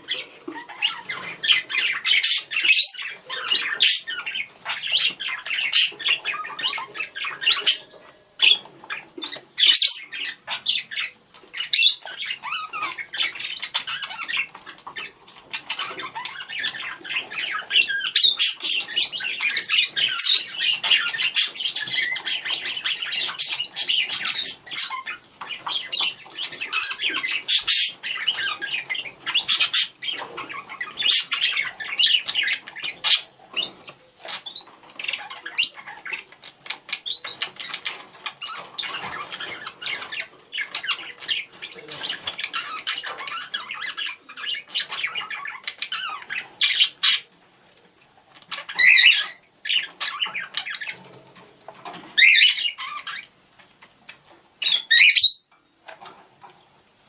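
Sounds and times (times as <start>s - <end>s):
budgerigars chattering and calling: 0.0s - 47.4s, 48.2s - 57.0s.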